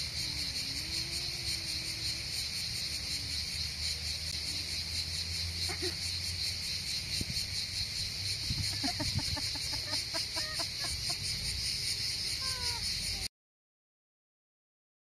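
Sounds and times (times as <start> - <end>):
crickets chirping: 0.0 - 13.3.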